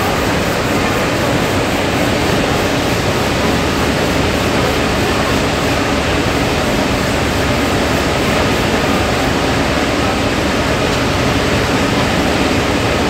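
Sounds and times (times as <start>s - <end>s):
fans and machines rushing: 0.0s - 13.0s.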